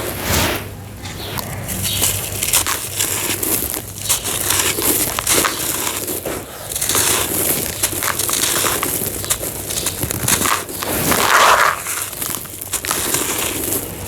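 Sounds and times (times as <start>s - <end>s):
cement crunching and crumbling: 1.1s - 14.0s.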